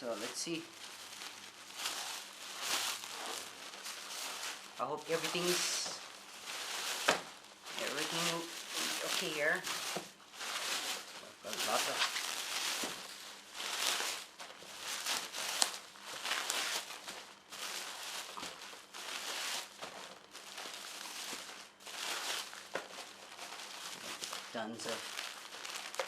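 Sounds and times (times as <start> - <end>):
packaging crinkling and rustling: 0.0 - 26.0.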